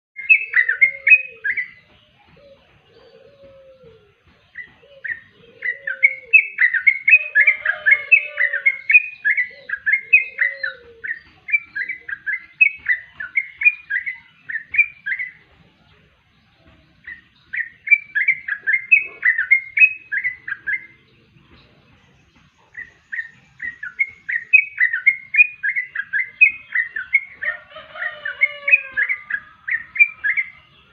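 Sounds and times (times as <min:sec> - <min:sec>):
bird chattering song: 0:00.2 - 0:30.9.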